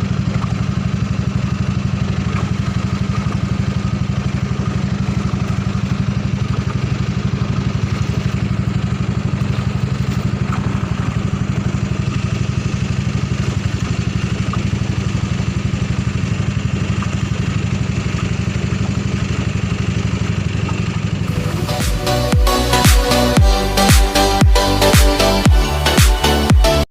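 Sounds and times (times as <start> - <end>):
boat engine chugging: 0.0 - 26.9.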